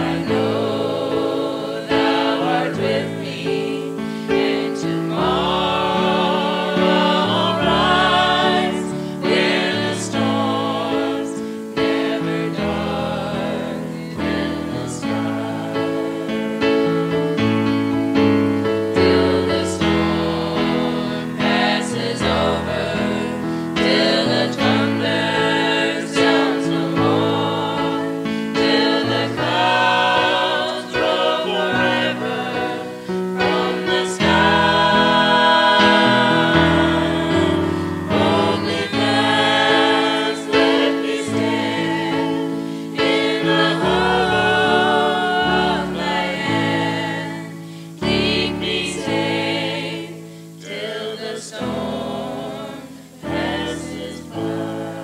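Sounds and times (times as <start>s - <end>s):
group singing in harmony: 0.0s - 55.0s
keyboard accompaniment: 0.0s - 55.0s.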